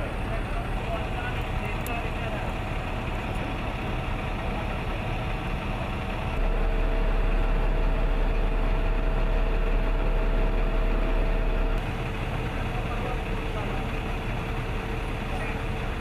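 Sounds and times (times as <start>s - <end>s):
truck engine and pump humming: 0.0s - 16.0s.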